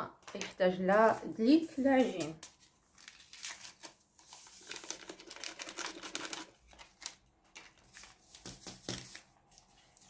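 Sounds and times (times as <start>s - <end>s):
packet crinkling and rustling: 0.2s - 10.0s.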